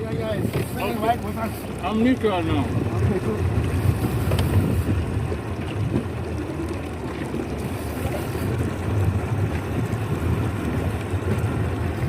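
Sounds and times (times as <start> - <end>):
boat motor idling: 0.0 - 12.0
wind noise on microphone: 2.2 - 12.0.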